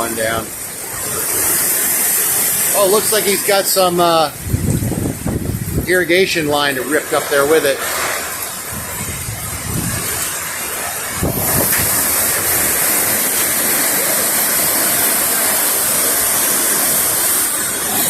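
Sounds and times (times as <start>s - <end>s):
driving rain: 0.0s - 18.0s
hurricane-force wind: 0.0s - 18.0s.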